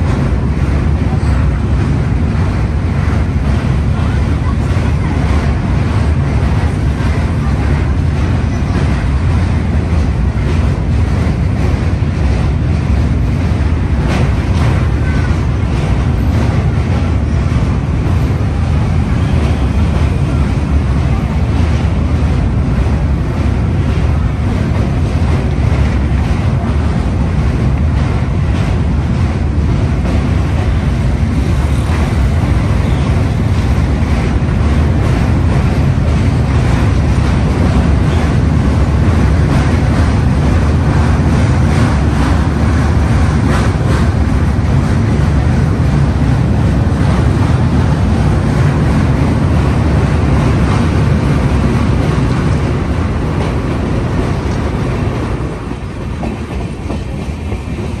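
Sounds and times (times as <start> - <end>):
train rumbling across steel bridge: 0.0 - 58.0
wind buffeting microphone: 0.0 - 58.0.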